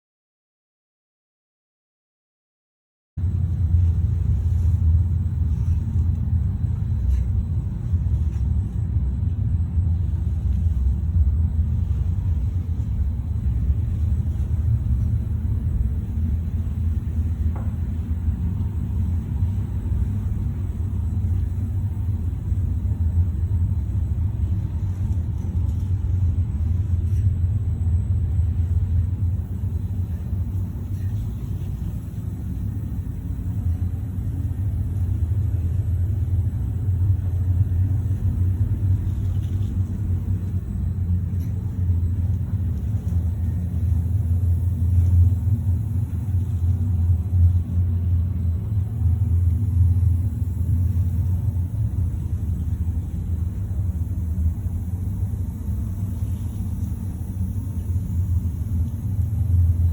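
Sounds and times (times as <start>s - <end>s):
steady low rumble: 3.2s - 59.9s.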